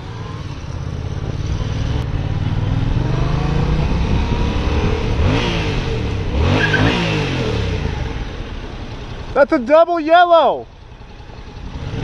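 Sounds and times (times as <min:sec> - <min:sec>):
motorcycle engine accelerating: 0:00.0 - 0:09.8, 0:10.6 - 0:12.0.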